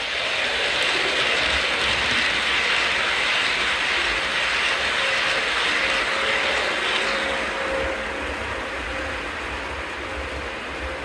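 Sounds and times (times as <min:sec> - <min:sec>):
rail clatter: 0:00.0 - 0:11.0
train rushing past: 0:00.0 - 0:11.0.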